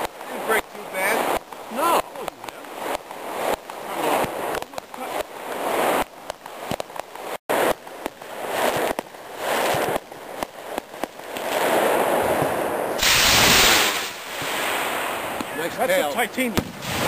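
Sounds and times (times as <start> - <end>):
hissing and crackling: 0.0 - 17.0
sharp pops: 0.0 - 17.0.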